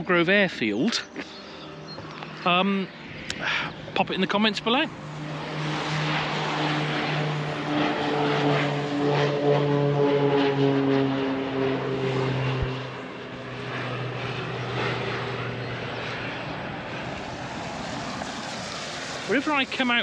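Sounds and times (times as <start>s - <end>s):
propeller aircraft flying overhead: 0.0s - 20.0s.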